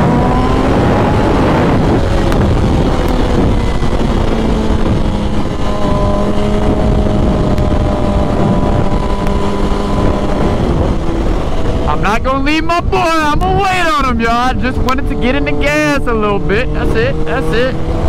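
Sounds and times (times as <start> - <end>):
motorcycle engine: 0.0 - 18.0
wind rush on microphone: 0.0 - 18.0.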